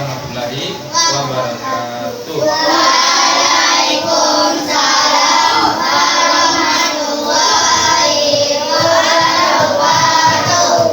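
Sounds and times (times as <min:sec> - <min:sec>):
children singing in unison: 0:00.9 - 0:10.9.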